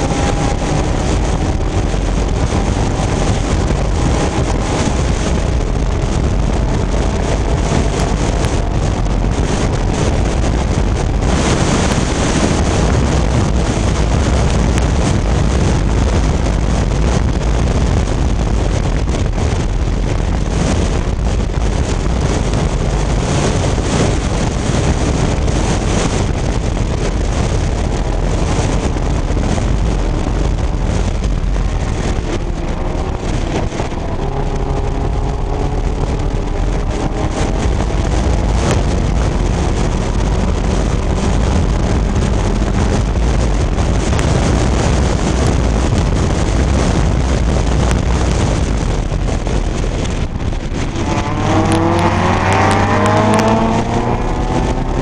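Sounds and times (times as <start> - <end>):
race car engine running hard: 0.0 - 55.0
wind buffeting on microphone: 0.0 - 55.0.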